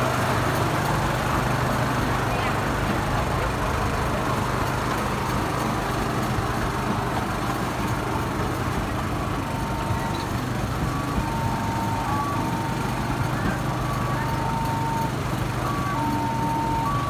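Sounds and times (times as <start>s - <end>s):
small train motor droning: 0.0s - 17.0s.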